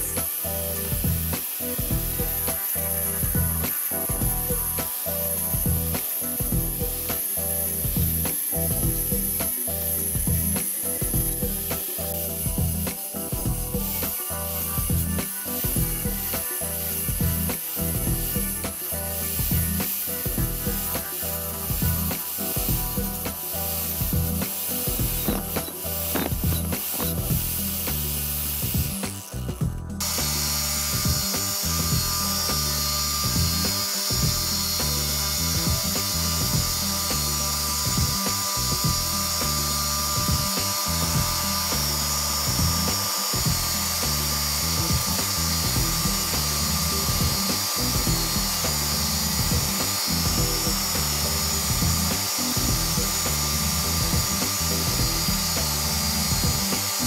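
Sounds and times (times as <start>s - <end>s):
background music: 0.0s - 57.0s
bench grinder grinding steel: 0.0s - 57.0s
wire wheel brushing rust off metal: 0.0s - 57.0s.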